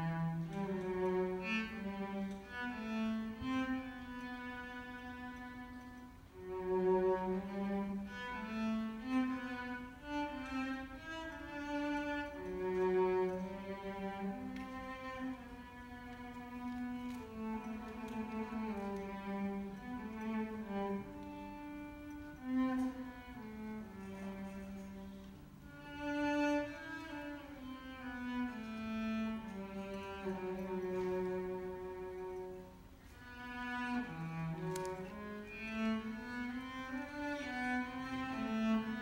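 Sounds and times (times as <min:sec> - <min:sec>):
cello playing bowed melody: 0:00.0 - 0:39.0.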